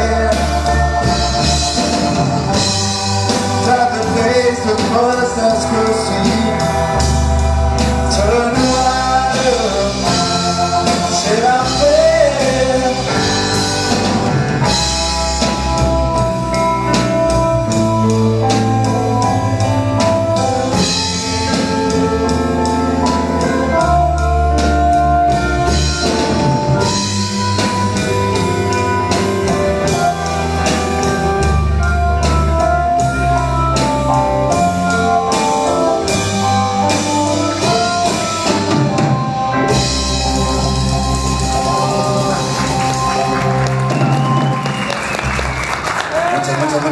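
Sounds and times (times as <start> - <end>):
held keyboard notes: 0.0 - 46.9
live rock band playing: 0.0 - 46.9.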